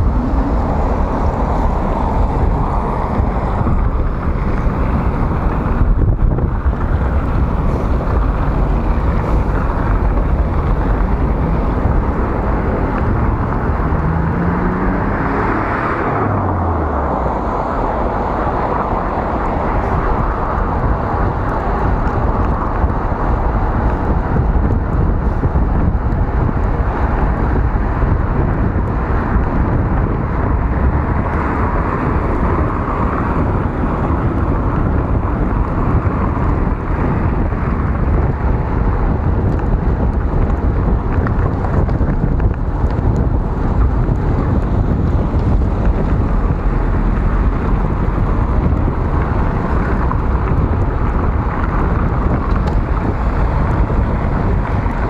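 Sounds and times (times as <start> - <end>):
city traffic: 0.0 - 55.0
passing vehicle engine: 0.0 - 55.0
wind buffeting microphone: 0.0 - 55.0.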